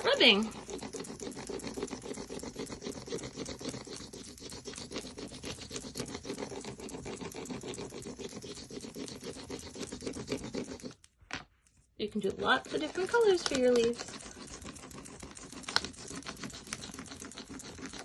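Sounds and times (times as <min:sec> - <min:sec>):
crayon scratching on paper: 0:00.0 - 0:11.1, 0:12.0 - 0:18.0.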